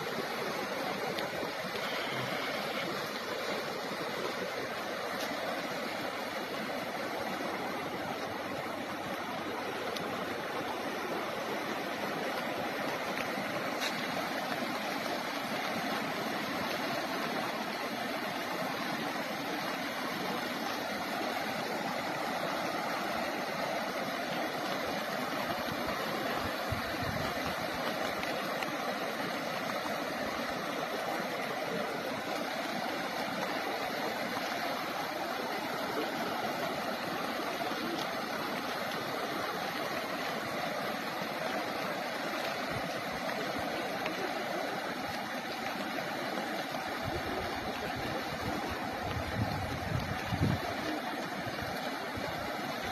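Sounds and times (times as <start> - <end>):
rushing river floodwater: 0.0 - 52.9.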